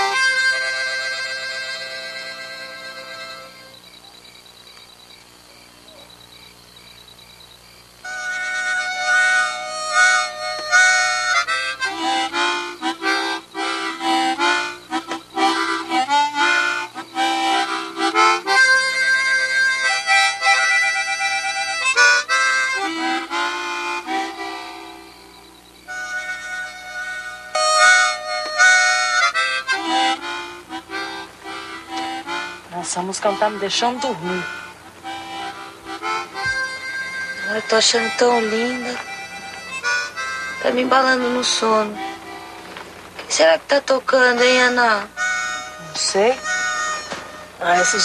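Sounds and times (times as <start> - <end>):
harmonica playing: 0.0 - 48.0.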